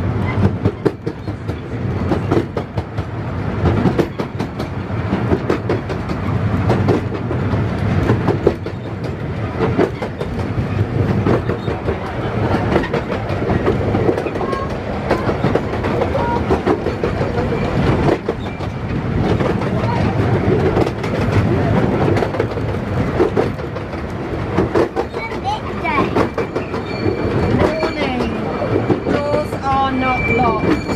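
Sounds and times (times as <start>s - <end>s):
train rumbling on track: 0.0s - 30.9s
wheels clicking over rail joints: 0.0s - 30.9s.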